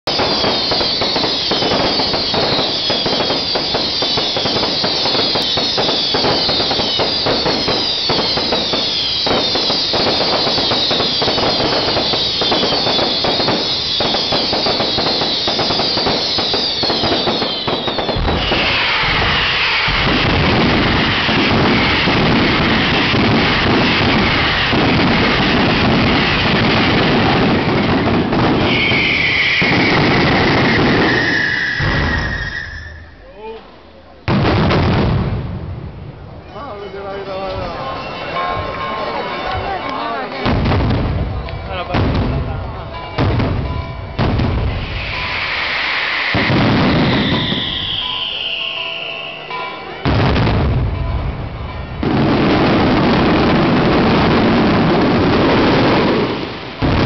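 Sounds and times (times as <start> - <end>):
fireworks whistles: 0.0 - 33.5, 43.0 - 51.1, 52.0 - 57.0
fireworks bangs: 0.0 - 57.0.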